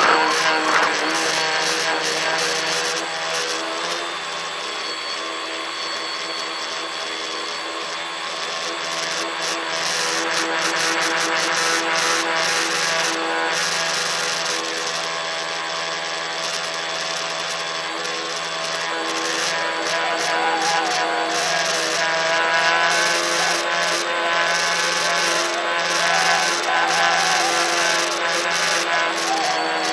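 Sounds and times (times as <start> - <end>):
motors and propellers whining: 0.0 - 29.9.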